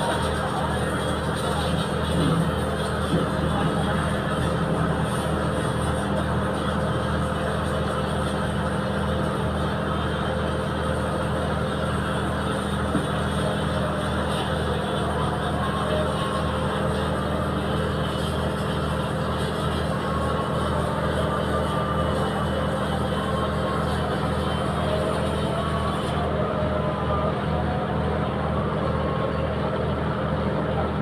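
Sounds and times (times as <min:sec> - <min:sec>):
boat engine throbbing: 0:00.0 - 0:31.0.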